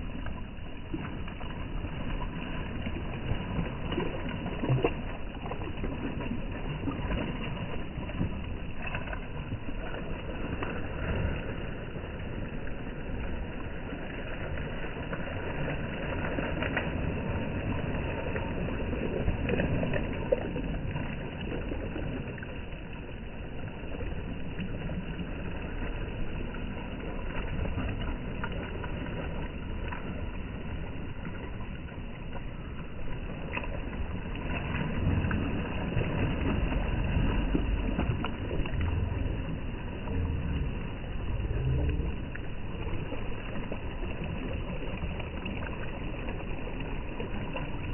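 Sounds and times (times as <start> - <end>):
waves lapping against rocks: 0.0 - 47.9.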